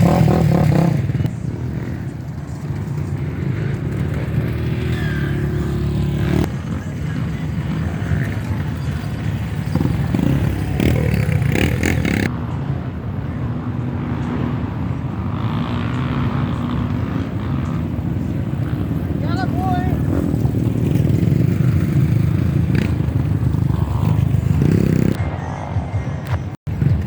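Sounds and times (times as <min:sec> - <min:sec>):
off-road motorcycle engines running: 0:00.0 - 0:25.2, 0:26.4 - 0:27.0.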